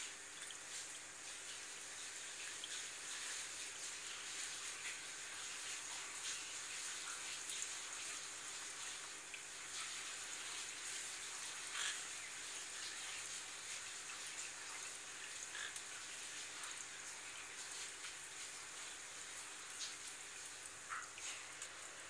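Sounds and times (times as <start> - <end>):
faint steady hum: 0.0 - 22.0
water trickling in aquarium: 0.0 - 22.0.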